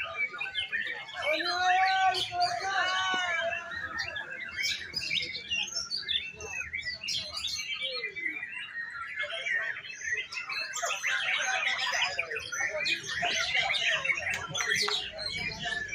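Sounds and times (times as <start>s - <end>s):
songbirds chirping and trilling: 0.0s - 15.9s.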